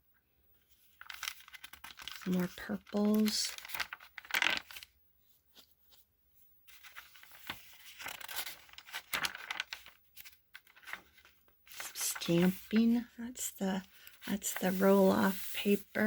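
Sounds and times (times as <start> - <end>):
paper pages rustling: 0.6 - 6.1, 6.7 - 16.0.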